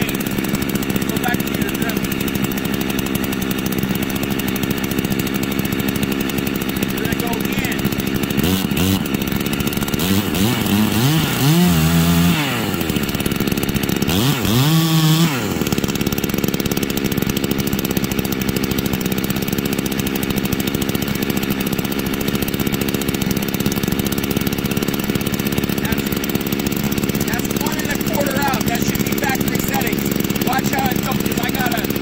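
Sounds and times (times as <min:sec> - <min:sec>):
chainsaw engine revving and idling: 0:00.0 - 0:32.0.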